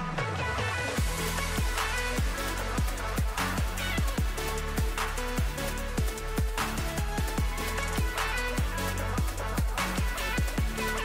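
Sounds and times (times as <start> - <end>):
electronic music with deep kicks: 0.0 - 11.0.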